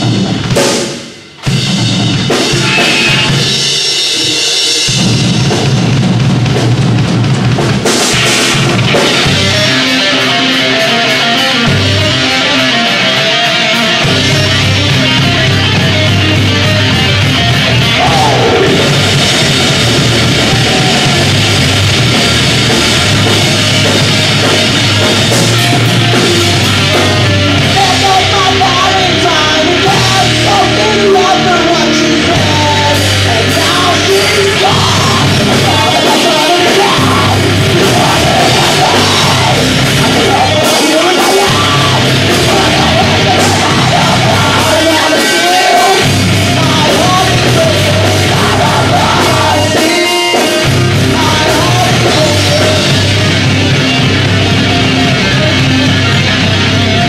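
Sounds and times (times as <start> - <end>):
bass guitar: 0.0 - 57.0
distorted electric guitars: 0.0 - 57.0
drum kit: 0.0 - 57.0.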